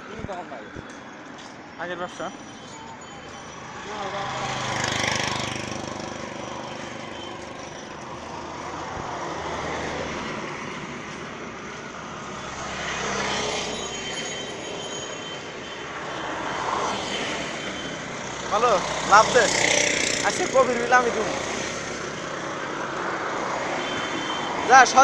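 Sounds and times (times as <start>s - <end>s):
road traffic rushing: 0.0s - 25.0s.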